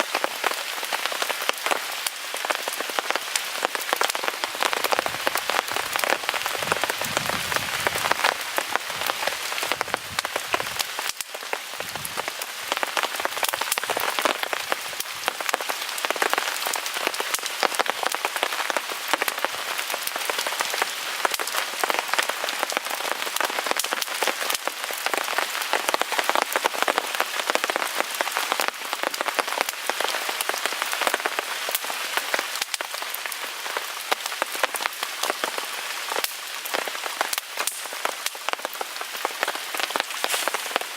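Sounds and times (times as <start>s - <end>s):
rain pattering on a tarp: 0.0s - 40.9s
wood fire crackling: 0.1s - 23.2s, 29.0s - 40.9s.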